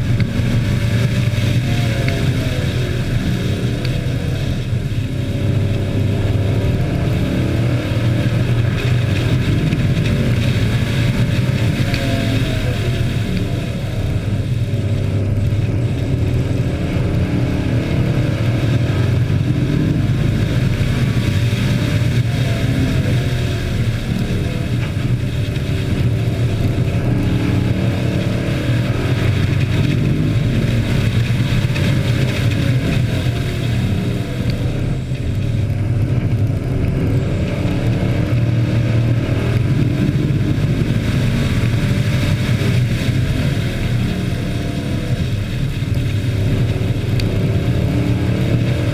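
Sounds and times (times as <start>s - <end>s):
race truck engines: 0.0s - 48.9s.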